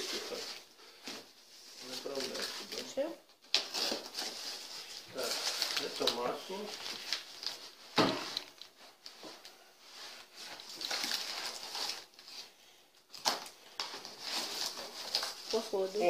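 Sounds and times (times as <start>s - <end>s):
tape and cardboard rustling: 0.0s - 16.0s.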